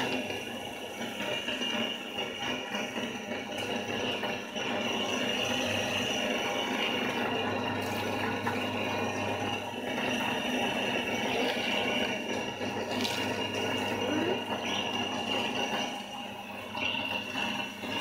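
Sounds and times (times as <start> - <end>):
pellet machine humming: 0.0 - 18.0.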